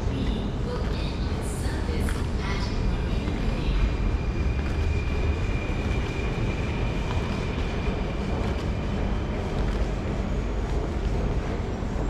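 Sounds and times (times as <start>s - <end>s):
high whine from train: 0.0s - 12.0s
train rumbling: 0.0s - 12.0s.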